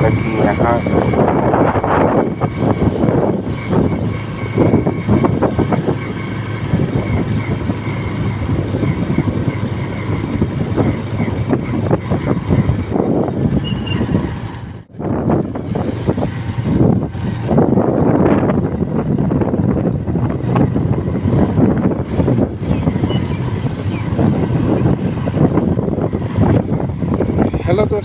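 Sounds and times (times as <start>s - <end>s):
gusty wind on microphone: 0.0s - 28.0s.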